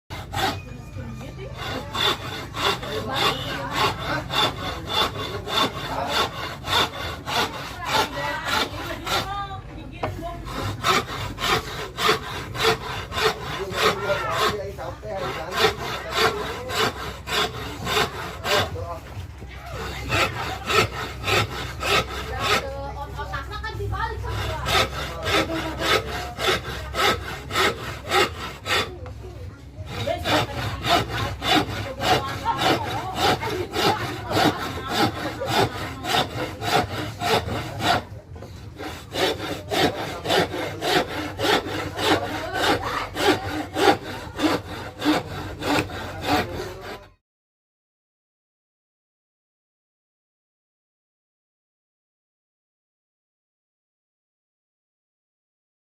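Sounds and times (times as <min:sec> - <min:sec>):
saw cutting through wood: 0:00.1 - 0:47.2.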